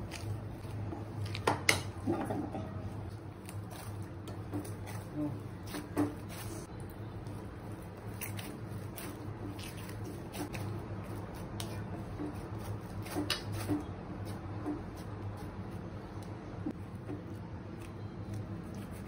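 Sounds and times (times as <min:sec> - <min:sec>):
dough squishing by hand: 0:00.0 - 0:19.0.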